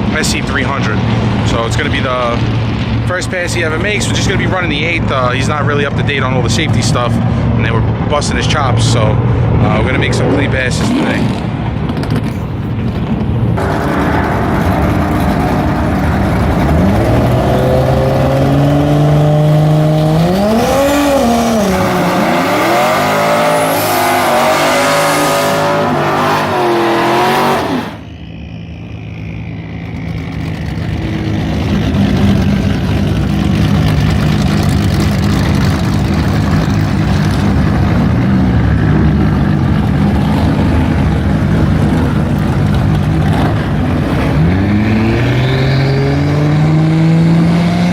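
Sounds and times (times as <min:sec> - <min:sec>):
drag car engine revving: 0:00.0 - 0:28.2, 0:29.8 - 0:47.9.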